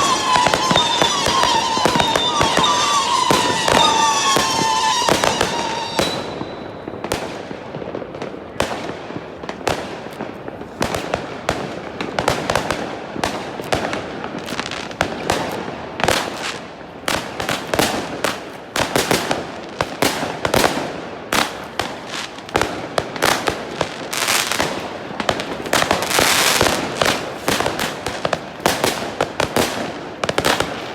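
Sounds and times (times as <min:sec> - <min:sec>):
fireworks bangs and crackling: 0:00.0 - 0:30.9.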